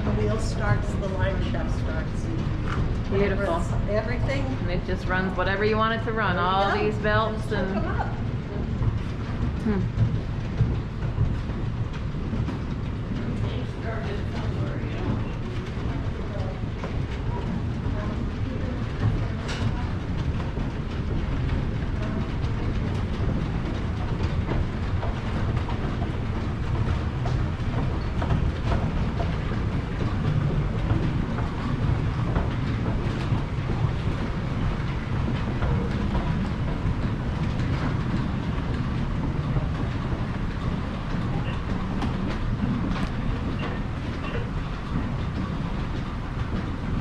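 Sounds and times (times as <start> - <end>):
machinery clatter: 0.0 - 47.0
mill machinery rumbling: 0.0 - 47.0.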